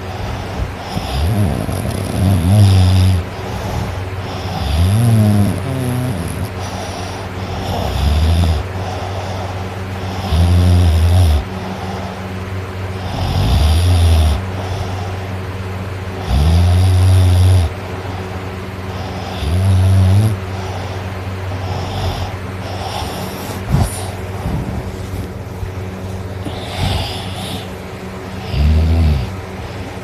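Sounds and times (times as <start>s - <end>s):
person snoring: 0.0s - 12.2s, 13.0s - 15.3s, 16.2s - 17.7s, 18.9s - 25.4s, 26.4s - 27.8s, 28.4s - 30.0s.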